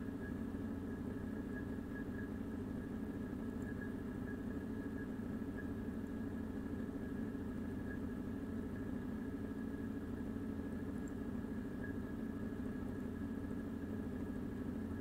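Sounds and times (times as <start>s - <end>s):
faint high whine: 0.0s - 15.0s
steady hum: 0.0s - 15.0s.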